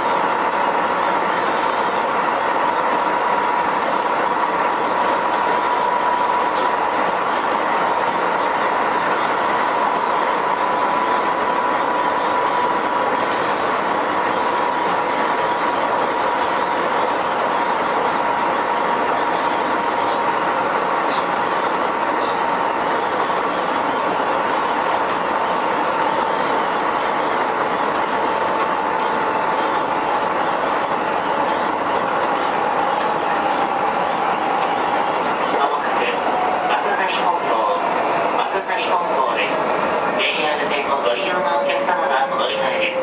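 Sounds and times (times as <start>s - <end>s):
high-pitched train whine: 0.0s - 43.0s
wheel and rail noise: 0.0s - 43.0s.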